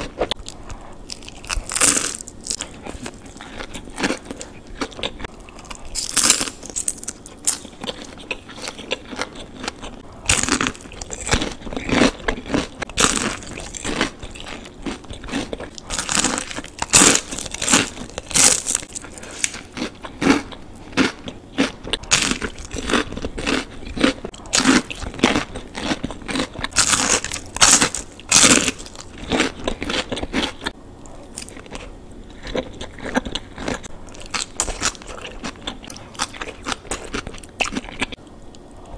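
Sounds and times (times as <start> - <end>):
chewing: 0.0 - 38.9
crisp crunching bites: 0.2 - 30.7, 31.3 - 38.2.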